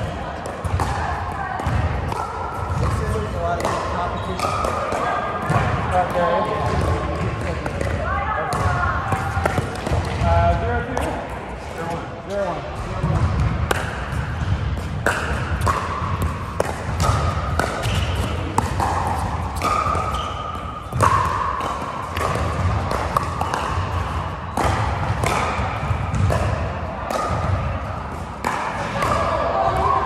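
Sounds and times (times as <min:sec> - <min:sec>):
paddles hitting plastic ball: 0:00.0 - 0:08.0, 0:09.1 - 0:10.3, 0:13.1 - 0:29.9
ball bouncing on hard court: 0:00.0 - 0:11.4, 0:12.8 - 0:30.0.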